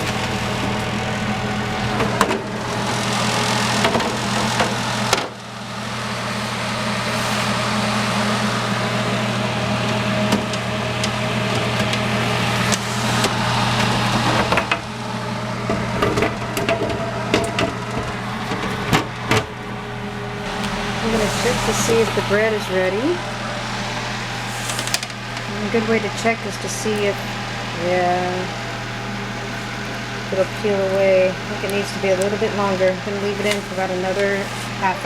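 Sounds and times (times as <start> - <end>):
fan humming: 0.0 - 35.0.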